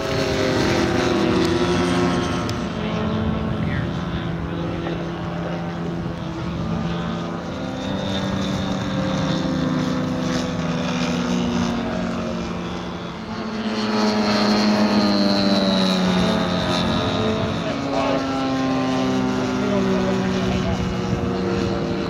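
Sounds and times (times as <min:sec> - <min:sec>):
high propeller whine: 0:00.0 - 0:22.0
model aeroplane engines droning: 0:00.0 - 0:22.0.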